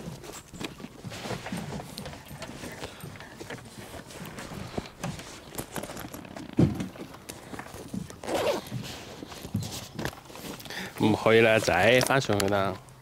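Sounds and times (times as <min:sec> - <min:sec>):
bags rustling: 0:00.0 - 0:12.7.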